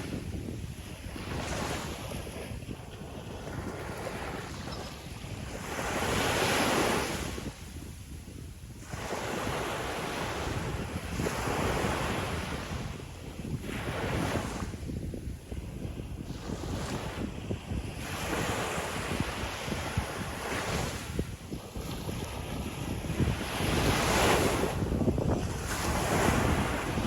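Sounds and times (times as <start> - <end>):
sea waves breaking on beach: 0.0 - 7.9, 8.8 - 14.9, 15.8 - 27.0
wind buffeting microphone: 0.0 - 27.0.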